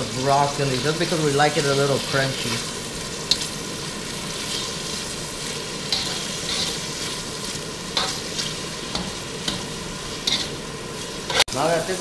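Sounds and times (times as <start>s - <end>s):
vegetables sizzling in a wok: 0.0s - 12.0s
metal tongs scraping a pan: 0.4s - 11.6s.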